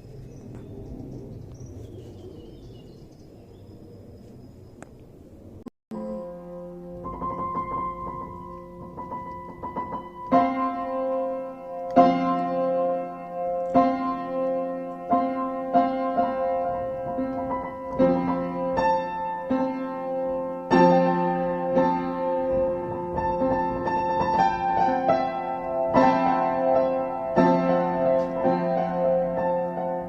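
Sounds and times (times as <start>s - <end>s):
piano chords: 5.4s - 30.0s.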